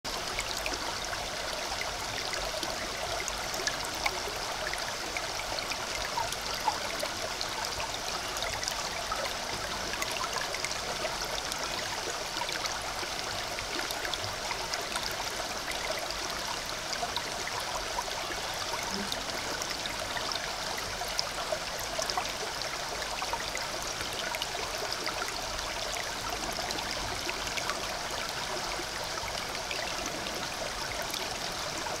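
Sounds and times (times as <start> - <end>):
stream trickling: 0.1 - 32.0
water drips and splashes: 0.1 - 32.0.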